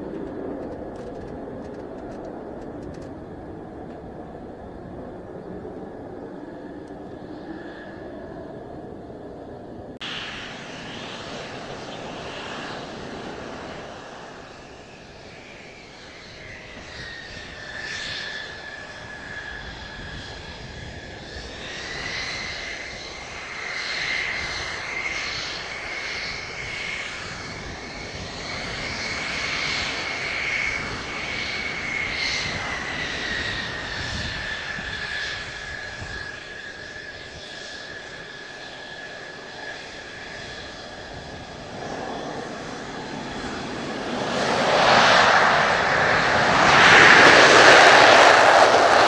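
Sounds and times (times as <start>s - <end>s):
jet engine whine: 0.0s - 49.0s.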